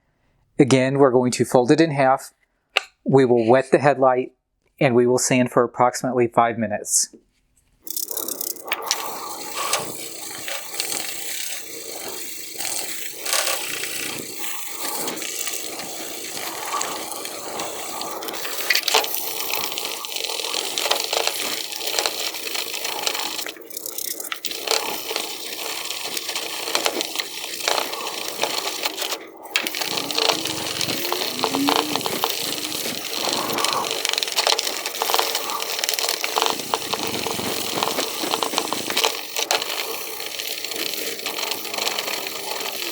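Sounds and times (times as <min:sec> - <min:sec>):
wet sandpaper scrubbing plastic: 0:07.9 - 0:42.9.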